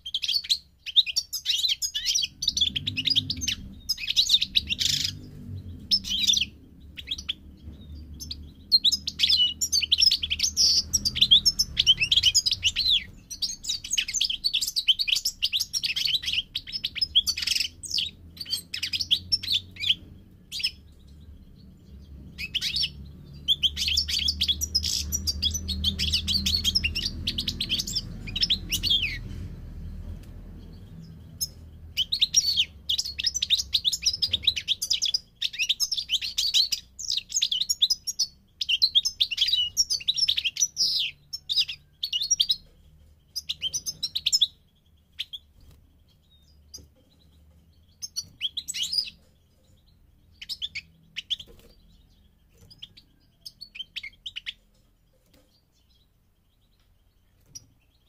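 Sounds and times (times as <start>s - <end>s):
finch twittering song: 0.0s - 58.0s.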